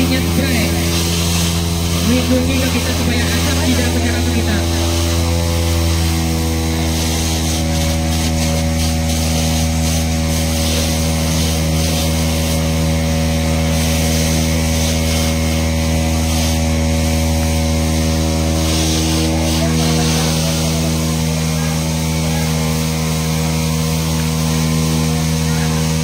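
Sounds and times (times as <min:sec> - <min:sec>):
pump engine running: 0:00.0 - 0:26.0
water jets hissing: 0:00.0 - 0:26.0.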